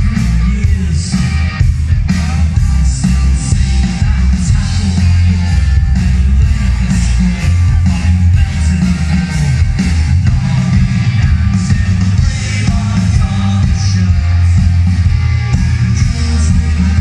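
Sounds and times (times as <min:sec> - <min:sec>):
drums: 0:00.0 - 0:17.0
electric guitars: 0:00.0 - 0:17.0
live rock band playing: 0:00.0 - 0:17.0.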